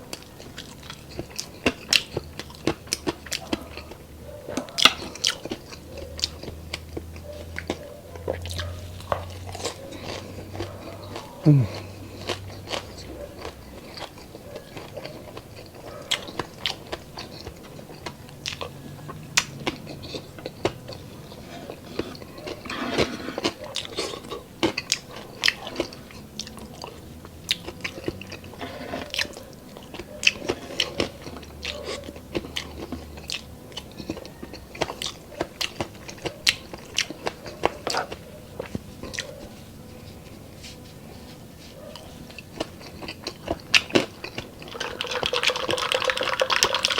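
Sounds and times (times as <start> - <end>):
chewing crispy food: 0.0 - 46.9.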